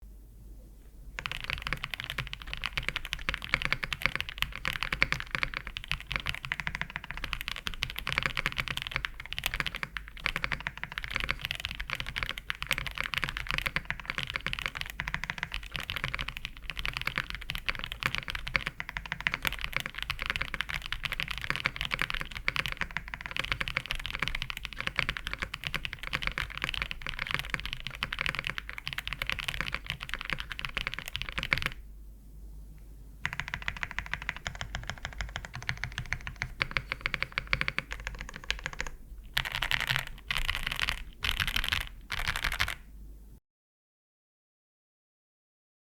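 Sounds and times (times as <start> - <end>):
fast mechanical keyboard typing: 1.2 - 31.8, 33.2 - 42.9.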